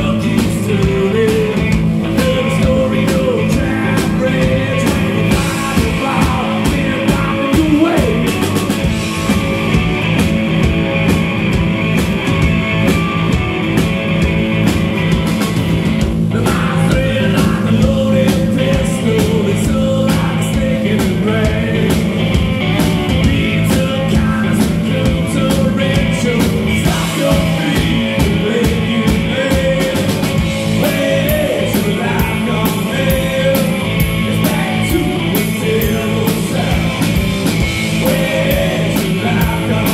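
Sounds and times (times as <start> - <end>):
man singing: 0.0 - 8.8, 16.3 - 39.9
live rock band playing: 0.0 - 39.9.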